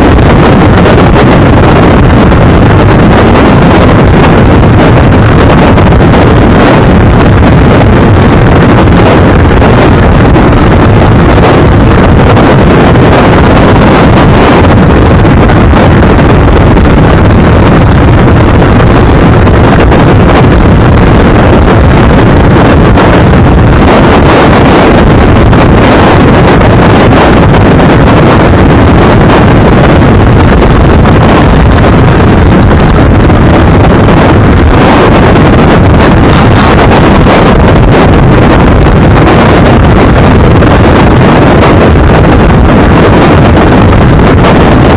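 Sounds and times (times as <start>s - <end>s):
road and engine rumble: 0.0s - 44.9s
wind buffeting microphone: 0.0s - 44.9s.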